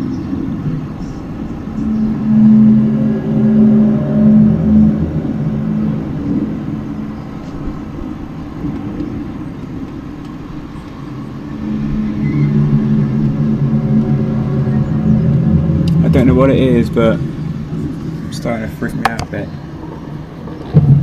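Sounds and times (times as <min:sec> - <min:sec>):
low droning hum: 0:00.0 - 0:21.0.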